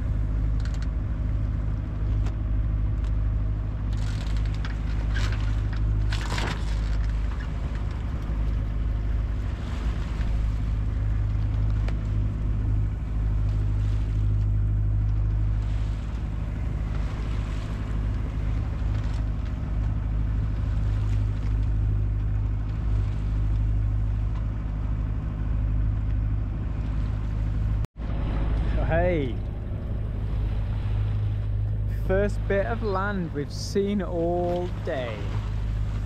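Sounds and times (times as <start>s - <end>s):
boat engine droning: 0.0s - 36.0s.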